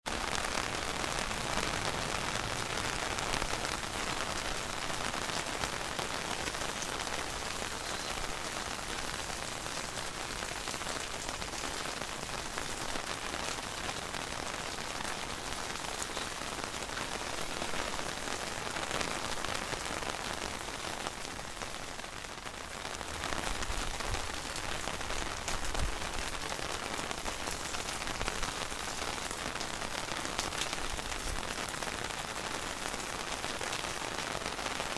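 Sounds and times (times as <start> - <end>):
rain pattering on surfaces: 0.0 - 34.9.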